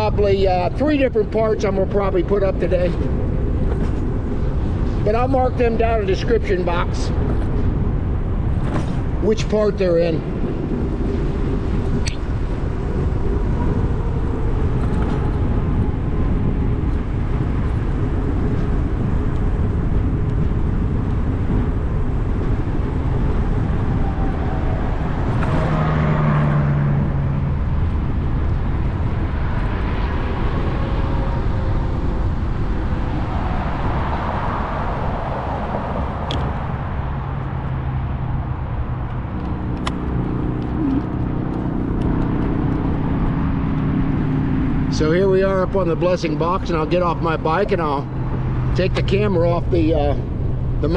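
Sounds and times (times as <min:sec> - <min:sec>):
bike tires rolling: 0:00.0 - 0:50.9
wind noise: 0:00.0 - 0:50.9.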